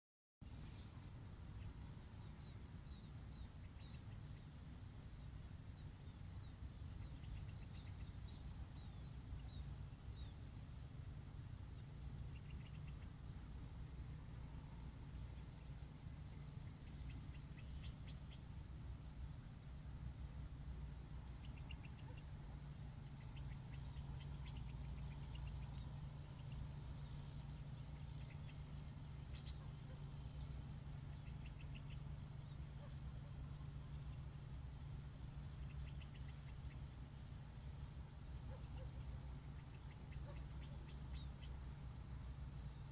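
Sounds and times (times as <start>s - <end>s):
insect trill: 0.4s - 42.9s
bird chirps: 0.5s - 42.9s.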